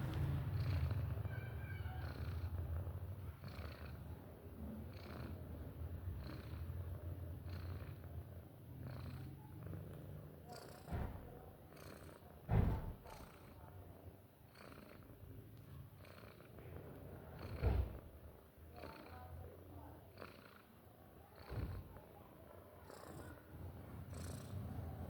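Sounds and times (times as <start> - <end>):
cat snoring: 0.0 - 13.8, 14.4 - 18.1, 18.7 - 22.1, 22.8 - 25.0.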